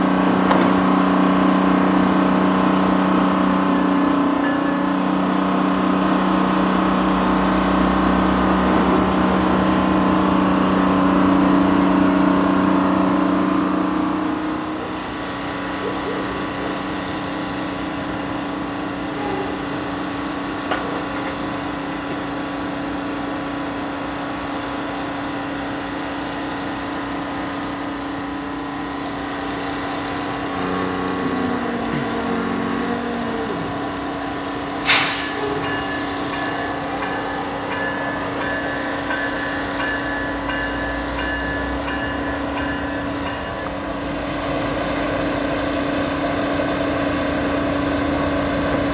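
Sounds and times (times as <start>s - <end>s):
diesel engines droning: 0.0s - 48.9s.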